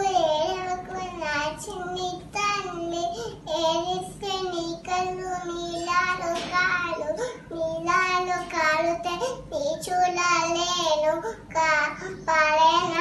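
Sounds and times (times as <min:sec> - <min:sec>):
girl singing a lullaby: 0:00.0 - 0:13.0.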